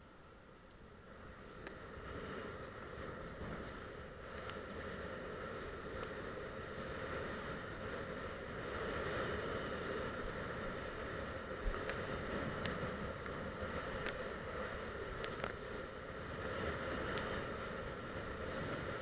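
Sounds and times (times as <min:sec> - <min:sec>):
motorboat engine drone: 0:00.0 - 0:19.0.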